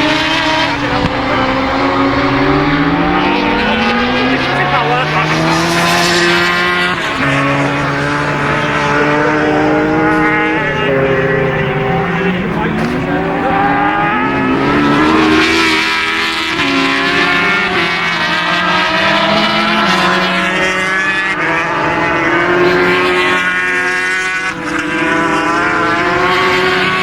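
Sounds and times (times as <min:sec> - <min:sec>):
racing motorcycle engines revving: 0:00.0 - 0:27.0.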